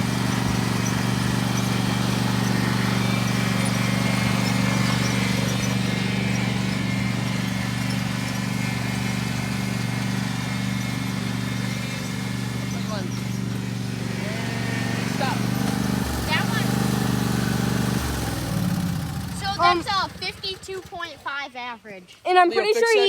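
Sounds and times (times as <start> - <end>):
lawn mower engine running: 0.0 - 21.8.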